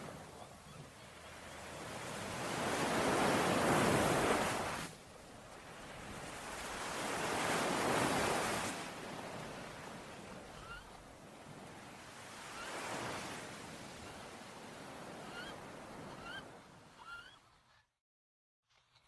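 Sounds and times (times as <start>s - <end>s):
ocean waves breaking on shore: 0.0s - 17.4s.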